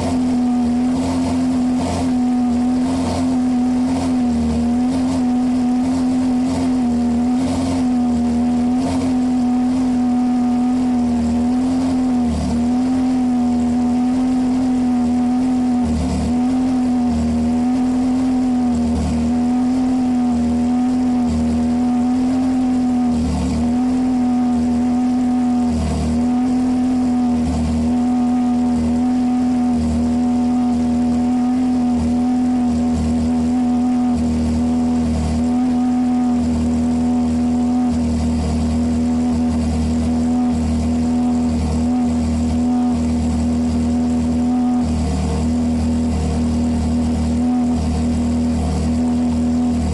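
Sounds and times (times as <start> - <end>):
sports car engine revving steadily: 0.0 - 49.9.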